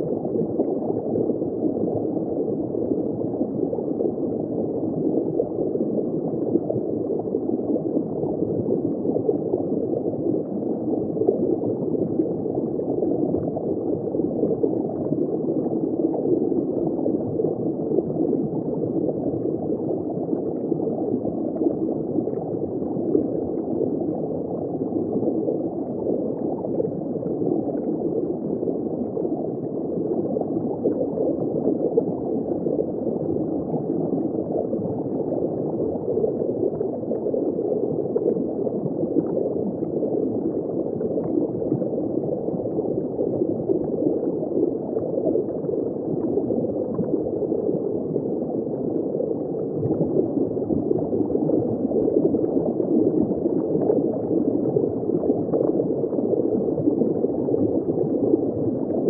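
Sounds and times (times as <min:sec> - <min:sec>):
muffled underwater bubbling: 0:00.0 - 0:59.0.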